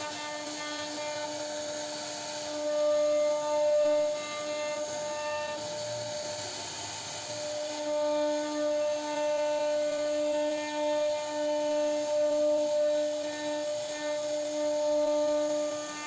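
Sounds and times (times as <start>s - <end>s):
router spindle whine: 0.0s - 16.0s
wood cutting hiss: 0.0s - 16.0s.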